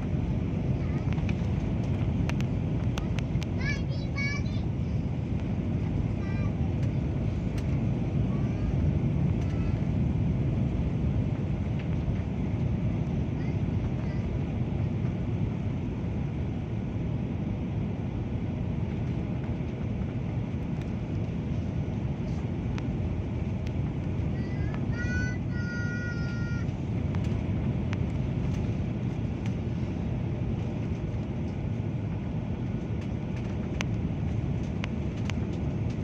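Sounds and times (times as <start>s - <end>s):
airliner cabin jet engine rumble: 0.0s - 36.0s.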